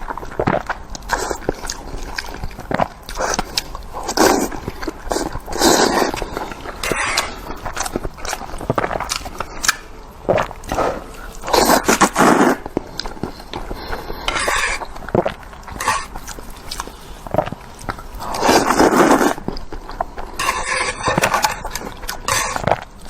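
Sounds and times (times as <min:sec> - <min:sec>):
wet chewing of noodles: 0:00.0 - 0:23.0.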